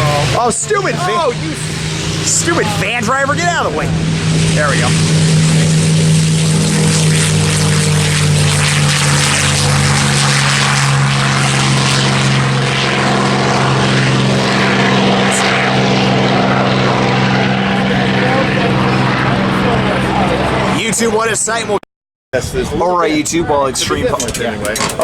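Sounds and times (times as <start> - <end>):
propeller plane engine drone: 0.0 - 21.8, 23.4 - 25.0.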